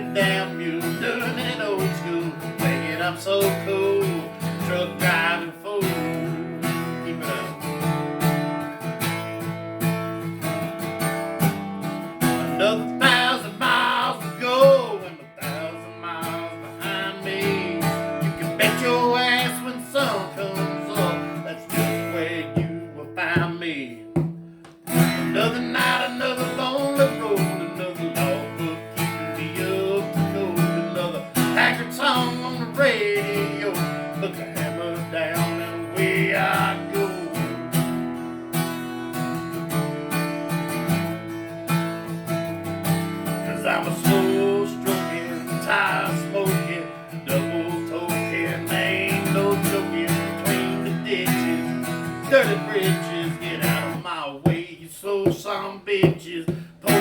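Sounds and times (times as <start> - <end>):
acoustic guitar strummed chords: 0.0 - 57.0
picked guitar lead line: 0.0 - 57.0.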